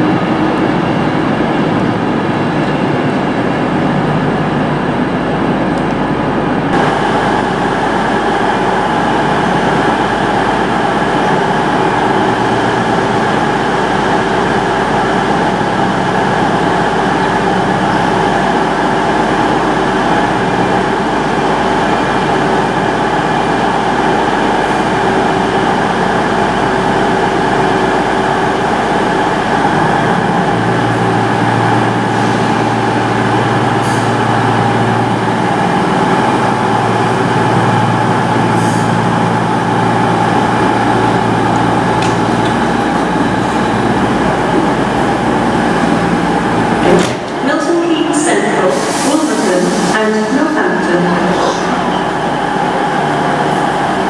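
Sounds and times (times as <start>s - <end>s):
electric train arriving: 0.0s - 54.0s.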